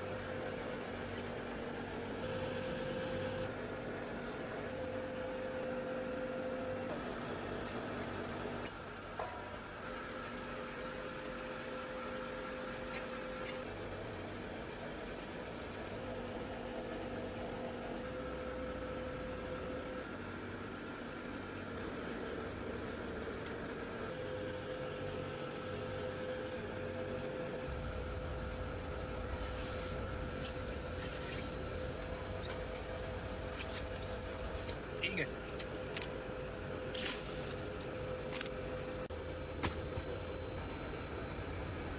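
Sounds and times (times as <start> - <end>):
factory machinery hum: 0.0 - 41.9.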